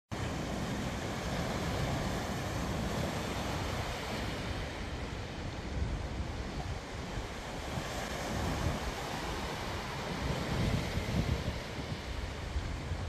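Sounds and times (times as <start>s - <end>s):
surf washing on shore: 0.1s - 13.0s
wind rumbling on microphone: 0.2s - 13.0s.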